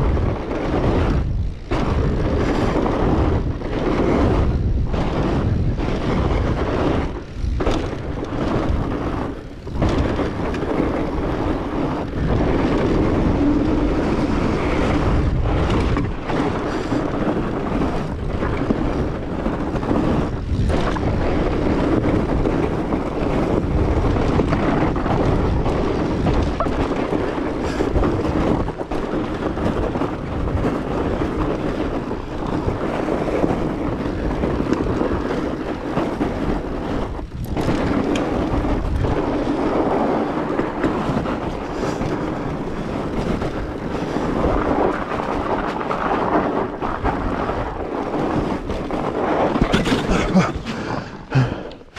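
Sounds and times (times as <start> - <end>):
bike tires rolling through snow: 0.0 - 51.9
wind noise on microphone: 0.0 - 51.9.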